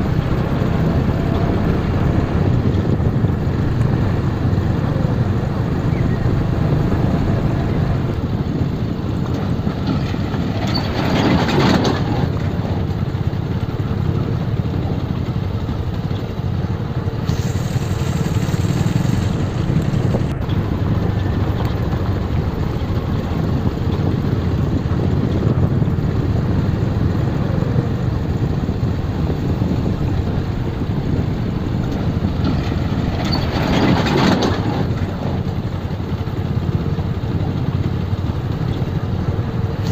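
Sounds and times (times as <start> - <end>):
motorcycle running at low speed: 0.0 - 39.9
wind noise on microphone: 0.0 - 39.9.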